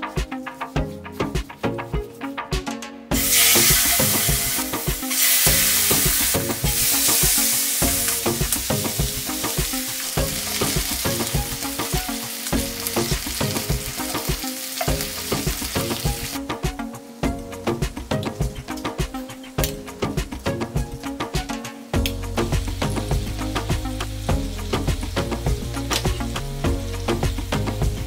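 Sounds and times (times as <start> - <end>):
chicken sizzling in a frying pan: 3.1 - 21.1, 22.0 - 28.0.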